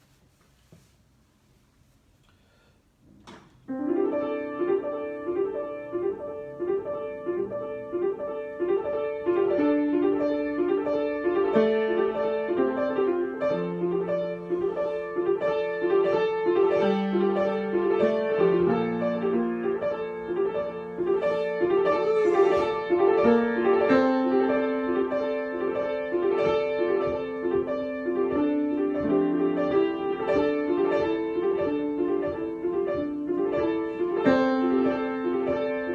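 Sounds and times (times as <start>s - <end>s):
piano improvisation: 2.4s - 35.9s.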